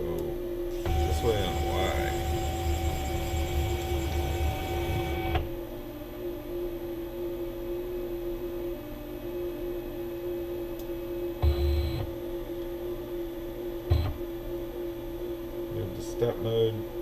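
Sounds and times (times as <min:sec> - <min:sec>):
stepper motors whining hum: 0:00.0 - 0:17.0
spindle running steady tone: 0:00.4 - 0:17.0.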